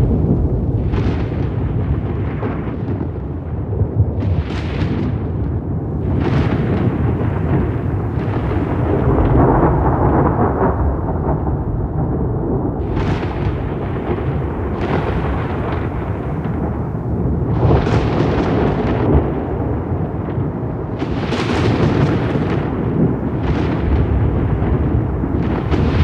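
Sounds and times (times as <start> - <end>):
rolling thunder rumble: 0.0 - 26.0
thunder cracks: 0.0 - 26.0.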